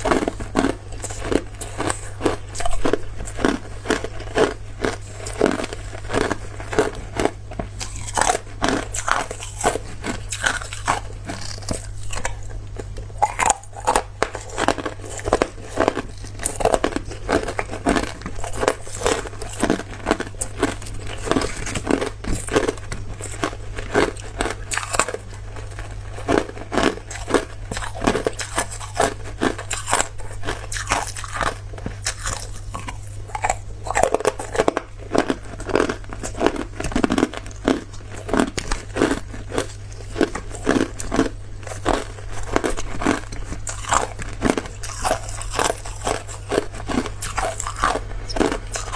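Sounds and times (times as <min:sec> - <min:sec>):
person crunching ice: 0:00.0 - 0:12.5, 0:13.2 - 0:48.9
steady low hum: 0:00.0 - 0:48.9.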